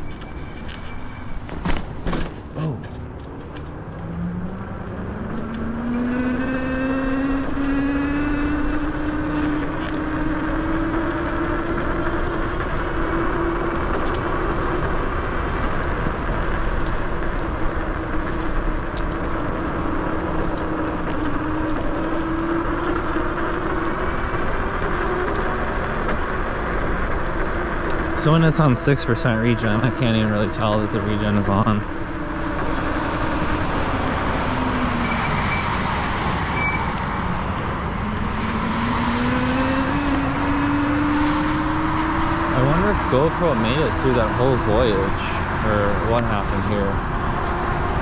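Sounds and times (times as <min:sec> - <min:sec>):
rushing riding noise: 0:00.0 - 0:48.0.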